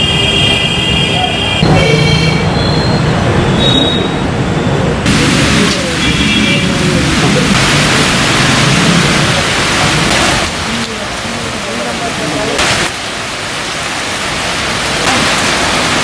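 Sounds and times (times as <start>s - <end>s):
road traffic rumble: 0.0s - 16.0s
heavy rain falling: 1.6s - 16.0s.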